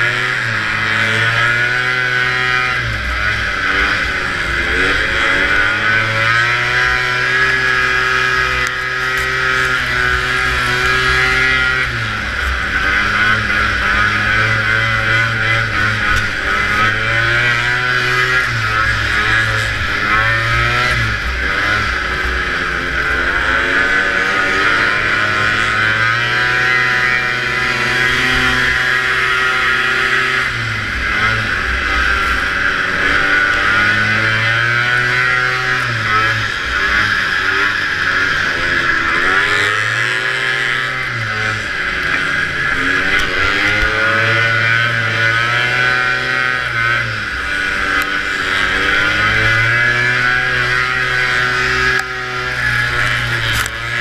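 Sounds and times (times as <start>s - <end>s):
snowmobile engine revving: 0.0s - 54.0s
track noise: 0.0s - 54.0s.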